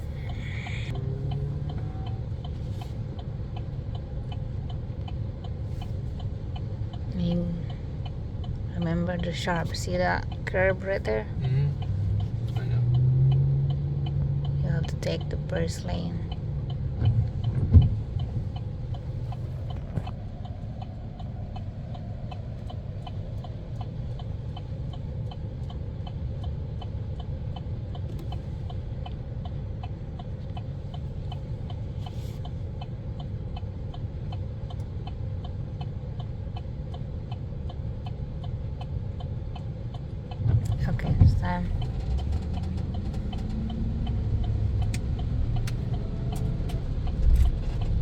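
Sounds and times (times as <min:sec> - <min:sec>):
engine and tyres rumbling: 0:00.0 - 0:48.0
faint regular ticking: 0:00.0 - 0:48.0.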